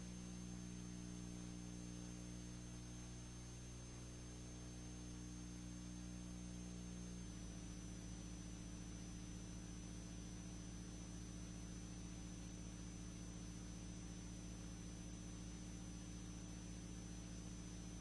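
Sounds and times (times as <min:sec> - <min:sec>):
faint electrical hum and hiss: 0:00.0 - 0:18.0.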